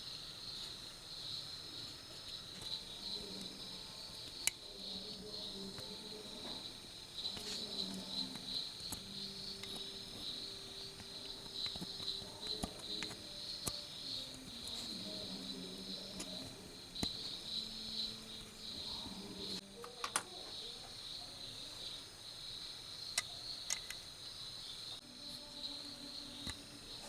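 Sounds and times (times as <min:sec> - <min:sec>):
insects chirping trill: 0:00.0 - 0:27.0.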